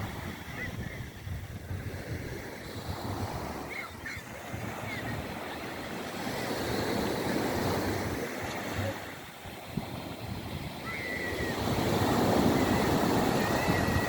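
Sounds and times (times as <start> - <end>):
sea waves breaking on shore: 0.0 - 14.0
wind buffeting microphone: 0.0 - 14.0.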